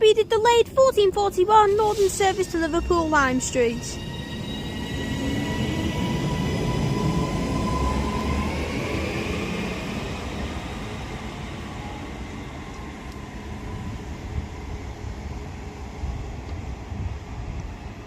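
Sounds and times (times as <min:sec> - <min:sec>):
rumble of train wheels: 0:00.0 - 0:18.0.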